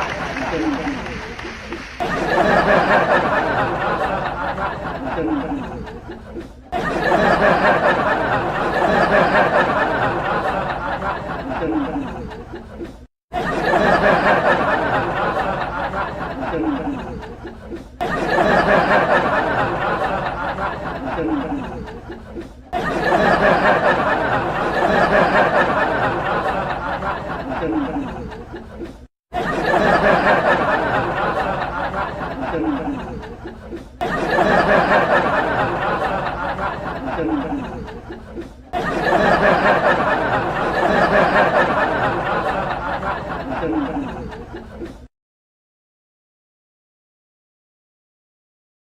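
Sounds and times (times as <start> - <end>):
studio audience laughter: 0.0 - 45.1.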